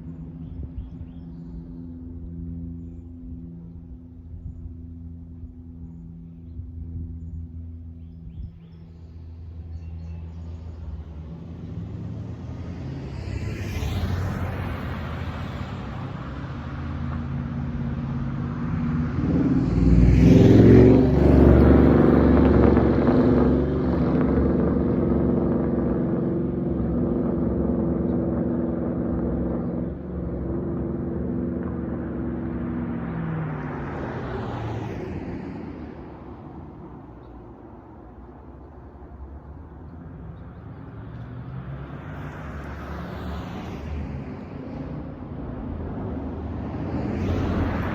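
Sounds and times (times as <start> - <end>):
car engine droning: 0.0 - 47.9.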